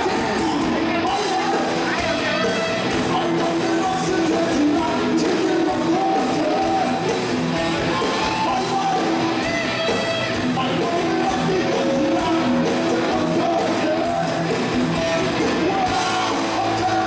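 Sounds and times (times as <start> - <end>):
man singing into a microphone: 0.0 - 7.2, 8.2 - 17.0
live rock band playing: 0.0 - 17.0.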